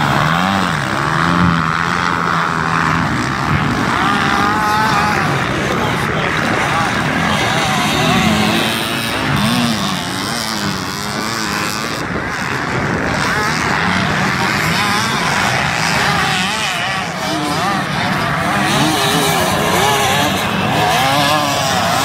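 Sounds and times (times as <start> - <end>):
dirt bike engines racing: 0.0 - 22.0.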